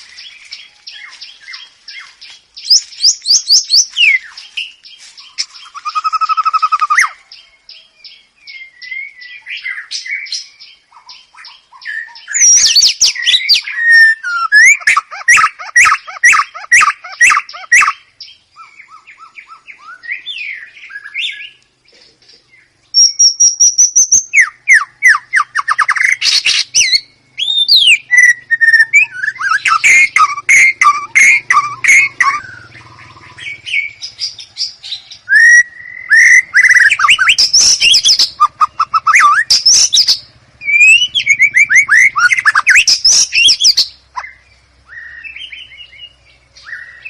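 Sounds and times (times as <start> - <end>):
songbird singing whistles and trills: 0.0 - 21.7, 22.4 - 47.0.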